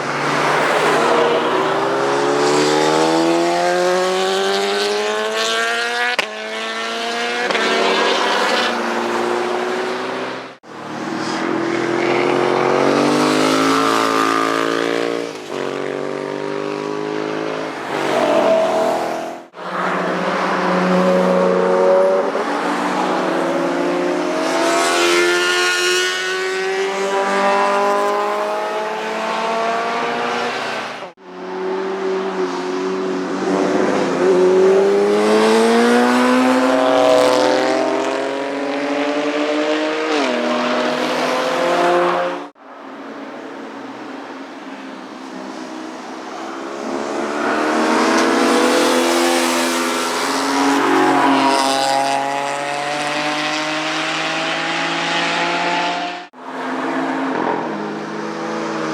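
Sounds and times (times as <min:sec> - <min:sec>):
motorcycles passing at speed: 0:00.0 - 0:42.6, 0:46.5 - 0:58.9.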